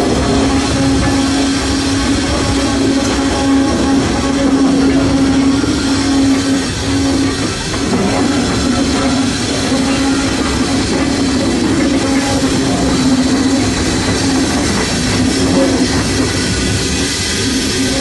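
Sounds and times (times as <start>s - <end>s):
held tone: 0.0s - 14.7s
steam locomotive hiss and rumble: 0.0s - 18.0s.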